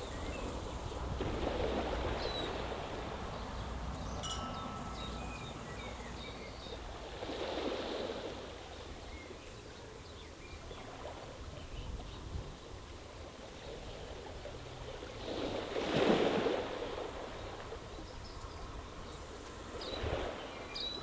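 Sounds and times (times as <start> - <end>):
small waves on stony beach: 0.0 - 9.5, 12.9 - 21.0.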